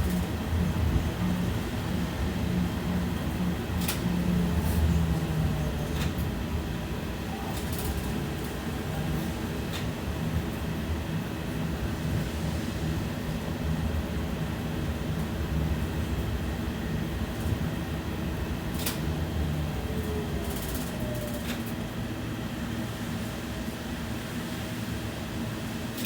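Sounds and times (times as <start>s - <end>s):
tram wheels rumbling on rails: 0.0s - 26.0s.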